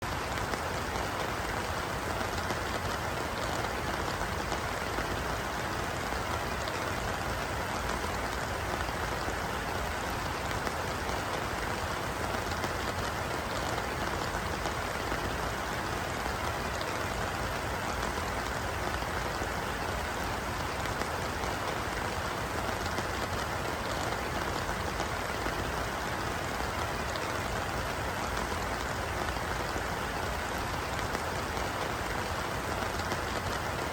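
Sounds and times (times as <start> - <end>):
rain falling on pond: 0.0 - 33.9.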